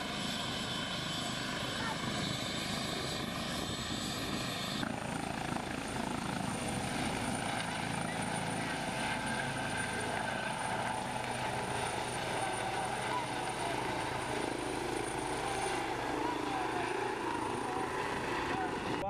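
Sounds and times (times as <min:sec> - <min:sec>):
helicopter rotor and turbine: 0:00.0 - 0:19.0
high turbine whine: 0:00.0 - 0:19.0.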